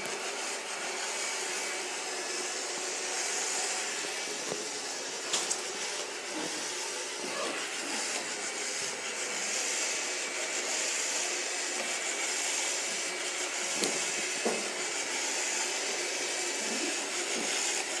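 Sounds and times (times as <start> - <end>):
robot vacuum cleaner whirring: 0.0 - 18.0.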